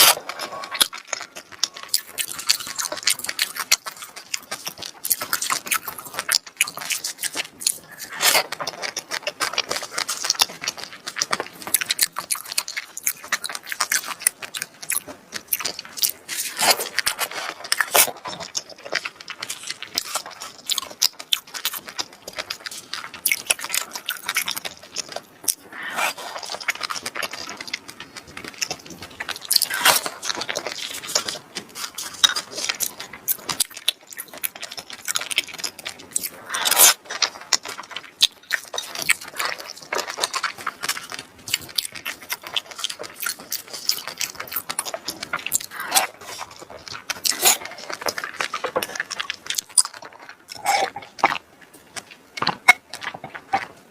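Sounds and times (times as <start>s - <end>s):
wet chewing and smacking: 0.0s - 53.9s.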